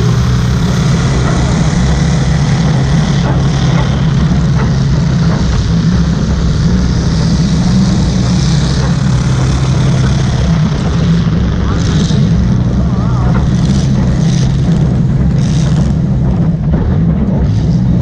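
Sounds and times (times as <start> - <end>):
car engine running loud: 0.0 - 18.0.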